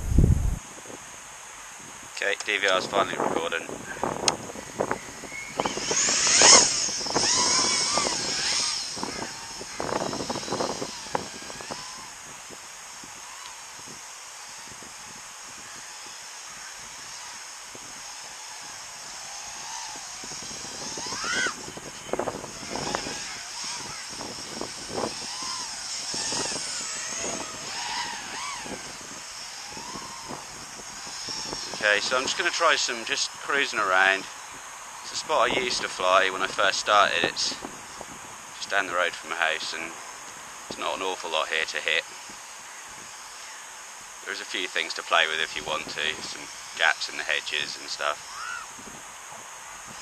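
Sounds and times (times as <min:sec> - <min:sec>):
quadcopter motors whining: 0:00.1 - 0:50.0.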